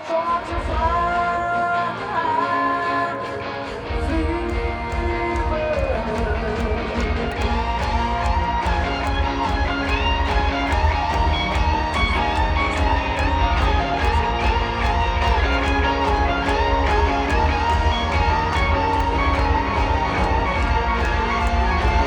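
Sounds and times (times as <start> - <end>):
electric lead guitar: 0.0 - 22.0
strummed guitar: 0.0 - 22.0
heavy bass: 4.0 - 22.0.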